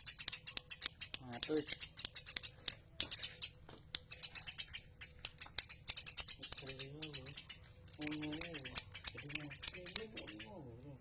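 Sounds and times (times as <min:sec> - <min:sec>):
sparrow chirping: 0:00.0 - 0:11.0.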